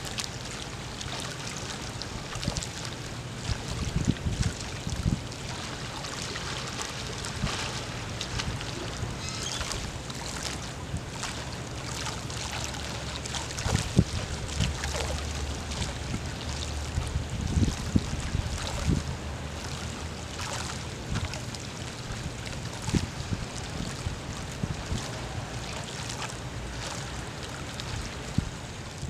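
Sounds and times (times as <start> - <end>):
moving water: 0.0 - 29.0
splashes of person wading: 0.0 - 29.0
wind rumble on microphone: 1.6 - 29.0.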